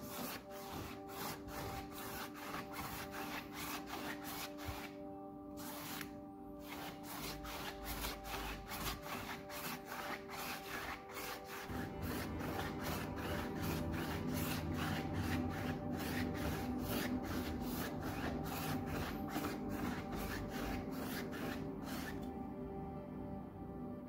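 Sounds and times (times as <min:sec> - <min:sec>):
quick rubbing strokes: 0:00.0 - 0:05.0, 0:05.6 - 0:22.3
quiet background music: 0:00.0 - 0:24.0.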